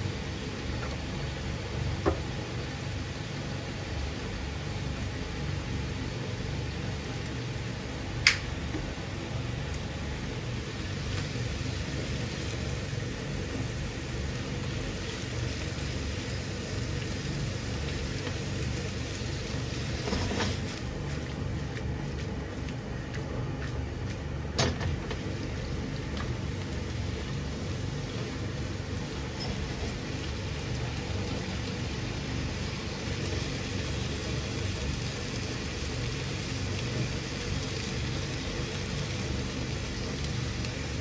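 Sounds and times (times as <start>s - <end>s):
food sizzling in frying pan: 0.0s - 41.0s.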